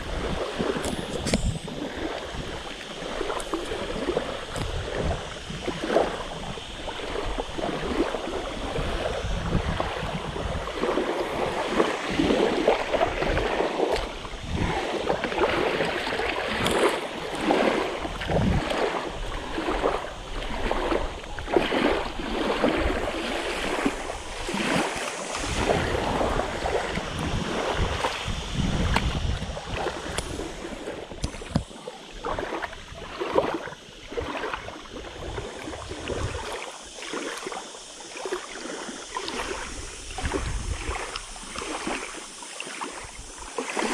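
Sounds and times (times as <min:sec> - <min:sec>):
wind buffeting microphone: 0:00.0 - 0:37.0, 0:37.8 - 0:43.9
water splashing: 0:00.0 - 0:43.9
waves washing against rocks: 0:00.0 - 0:43.9.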